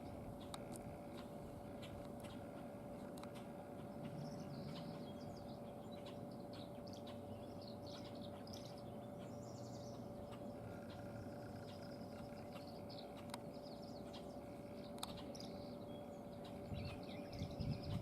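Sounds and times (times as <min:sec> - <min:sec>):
faint hum: 0:00.0 - 0:18.0
small birds chirping: 0:00.0 - 0:18.0.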